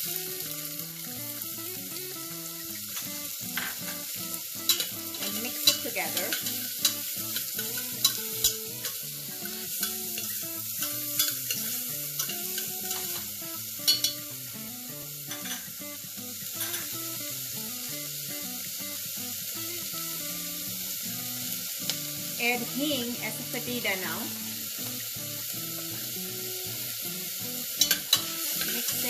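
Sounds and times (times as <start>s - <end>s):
onions sizzling in oil: 0.0s - 29.0s.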